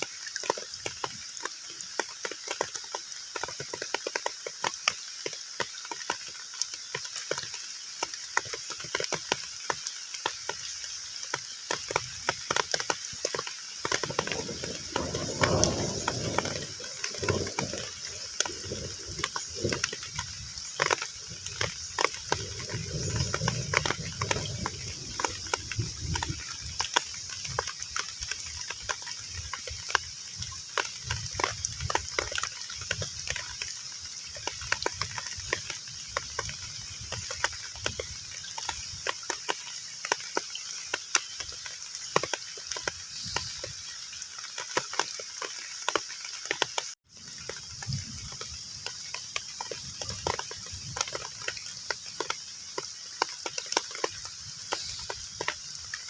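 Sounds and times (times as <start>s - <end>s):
heavy rain on pond: 0.0s - 56.0s.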